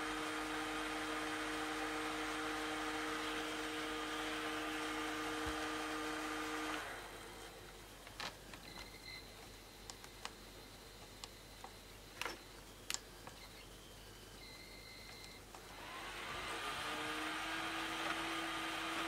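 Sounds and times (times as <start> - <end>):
laptop cooling fan humming: 0.0 - 19.0.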